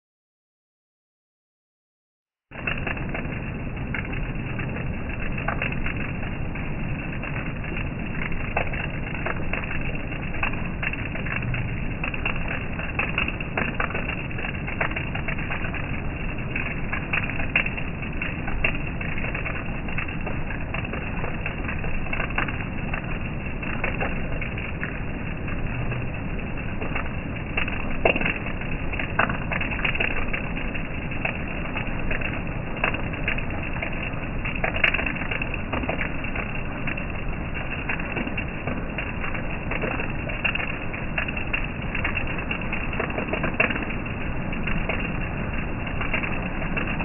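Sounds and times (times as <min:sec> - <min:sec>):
steady rain: 0:02.5 - 0:47.0.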